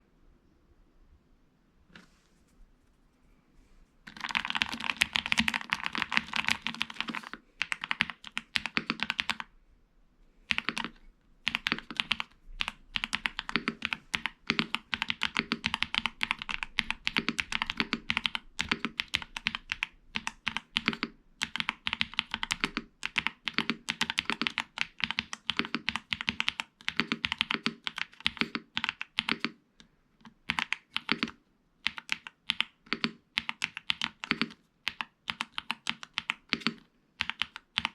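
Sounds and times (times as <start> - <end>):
mechanical keyboard typing: 4.1 - 9.5, 10.5 - 29.6, 30.2 - 37.9.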